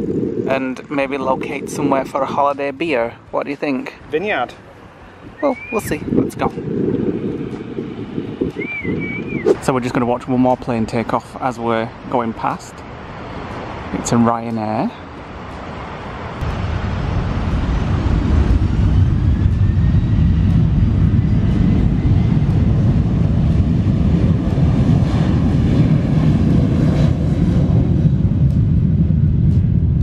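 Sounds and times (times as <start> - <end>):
jet engine roar: 0.0 - 30.0
rising engine whine: 0.0 - 30.0.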